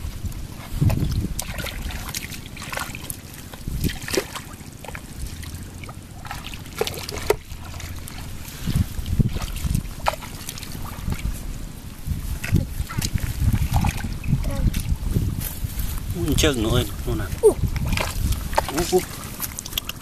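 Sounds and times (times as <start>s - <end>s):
sloshing in muddy water: 0.0s - 20.0s.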